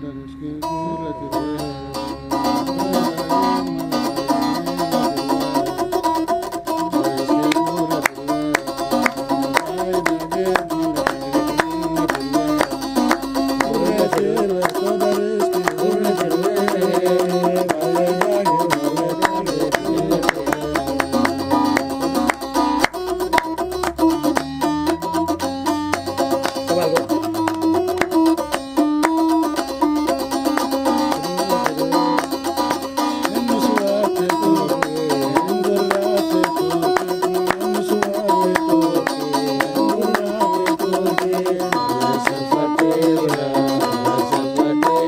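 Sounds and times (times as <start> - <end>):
lyre plucked melody: 0.0 - 45.0
hand claps: 2.0 - 45.0.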